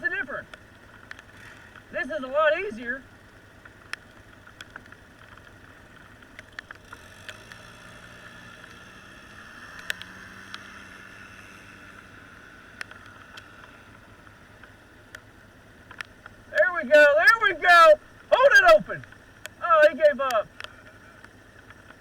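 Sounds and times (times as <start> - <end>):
distant small engine running: 0.0 - 22.0.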